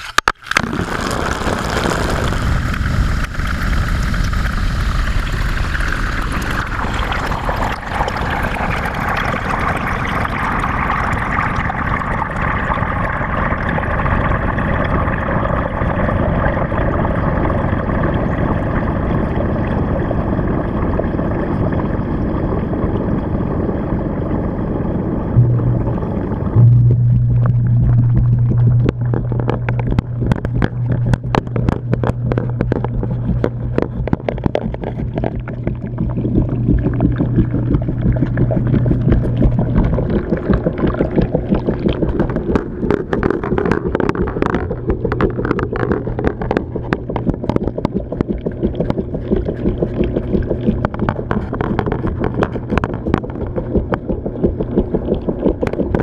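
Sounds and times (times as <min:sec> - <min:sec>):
muffled water sloshing: 0:00.4 - 0:56.0
steady low hum: 0:01.7 - 0:56.0.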